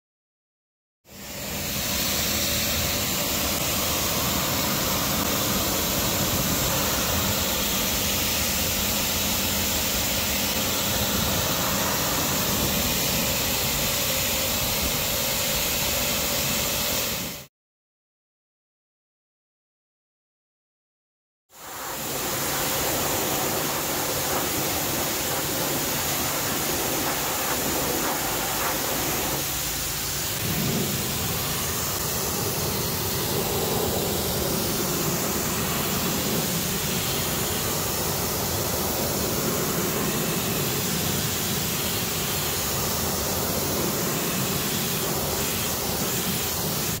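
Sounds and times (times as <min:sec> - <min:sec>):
pressure washer spray hissing: 0:01.1 - 0:17.5, 0:21.5 - 0:47.0.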